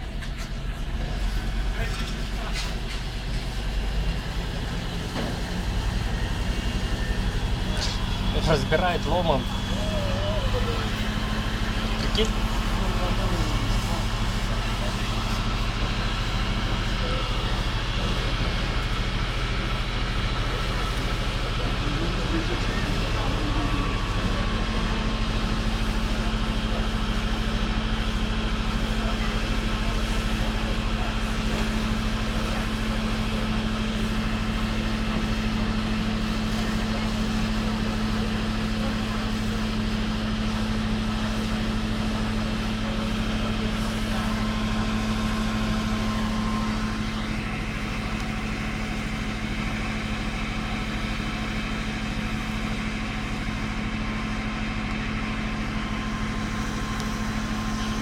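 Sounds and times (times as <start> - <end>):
fire engine pump motor humming: 0.0 - 58.0.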